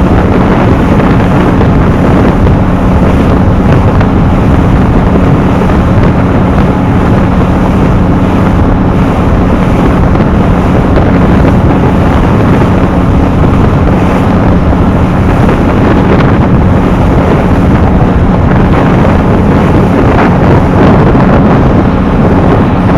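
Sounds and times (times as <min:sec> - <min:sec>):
boat engine running: 0:00.0 - 0:22.9
wind buffeting microphone: 0:00.0 - 0:22.9.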